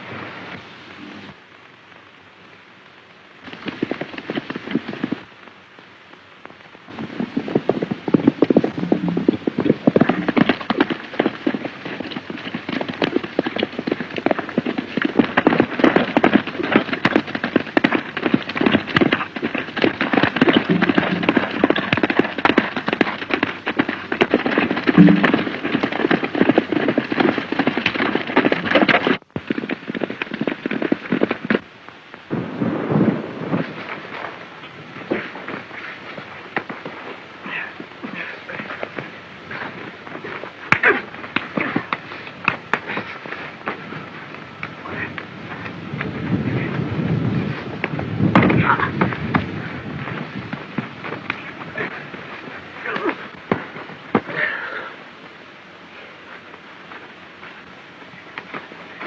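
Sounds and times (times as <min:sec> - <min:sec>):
horses galloping hooves: 0:00.0 - 0:59.0.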